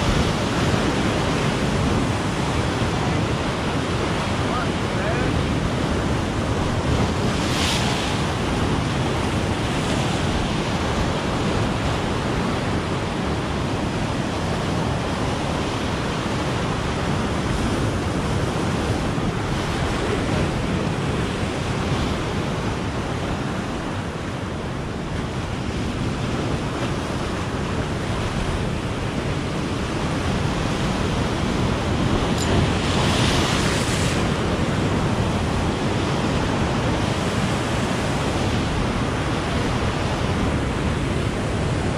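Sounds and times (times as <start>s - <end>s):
sea surf washing over rocks: 0.0s - 41.9s.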